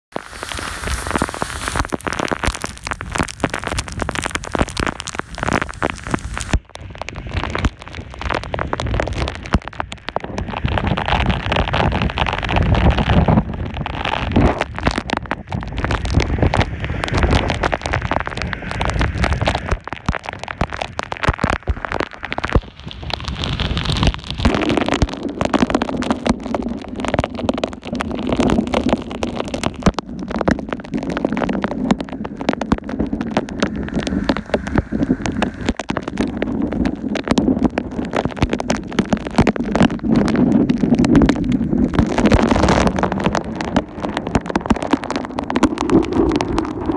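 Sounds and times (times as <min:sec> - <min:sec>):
heavy rain on wet street: 0:00.1 - 0:46.9.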